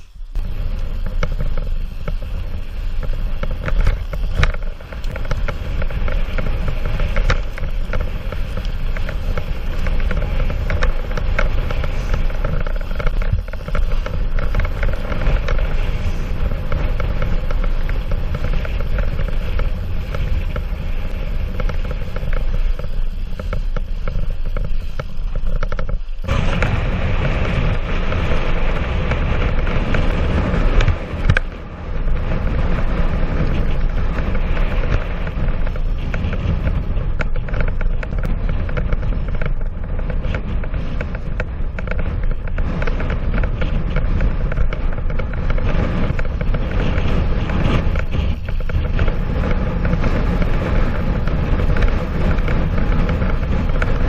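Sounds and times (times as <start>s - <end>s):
bike rattling over bumps: 0.0s - 54.0s
bike tyres on dirt: 0.0s - 54.0s
wind rushing over microphone: 0.0s - 54.0s.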